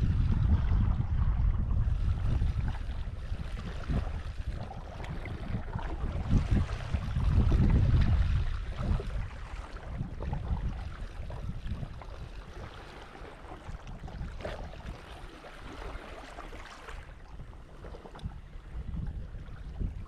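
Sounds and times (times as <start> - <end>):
wind buffeting microphone: 0.0 - 20.0
small waves washing: 0.3 - 20.0.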